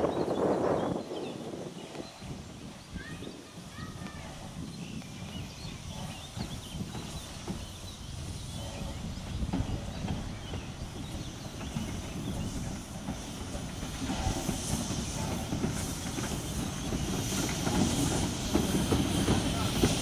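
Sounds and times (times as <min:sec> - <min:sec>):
steam hissing: 0:00.1 - 0:20.0
train wheels clattering on rails: 0:03.0 - 0:20.0.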